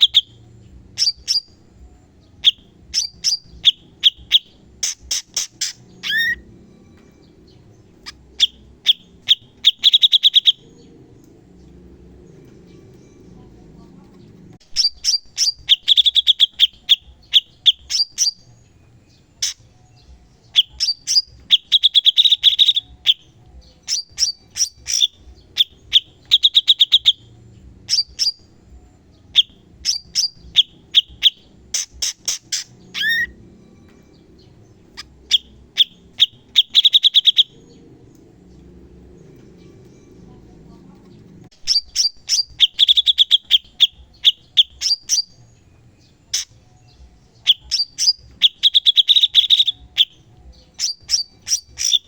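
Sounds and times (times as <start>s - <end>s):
bird singing clicking notes and trills: 0.0s - 52.0s.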